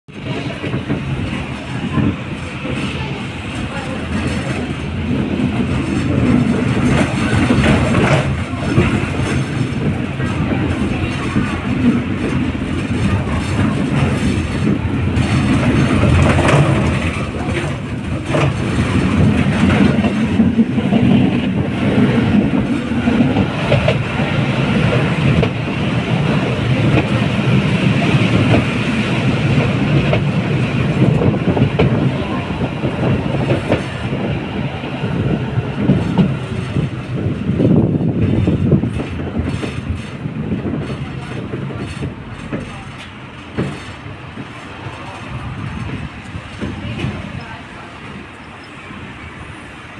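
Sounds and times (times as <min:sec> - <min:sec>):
wheels clacking over rail joints: 0:00.1 - 0:49.7
tram wheels rumbling on rails: 0:00.1 - 0:49.9.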